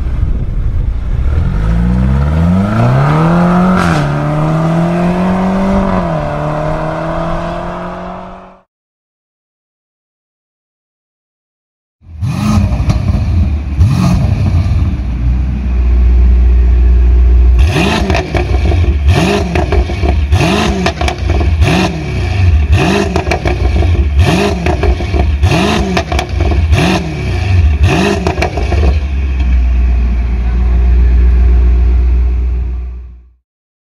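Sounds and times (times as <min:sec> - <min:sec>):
car engine idling and revving: 0:00.0 - 0:08.7, 0:12.0 - 0:33.4.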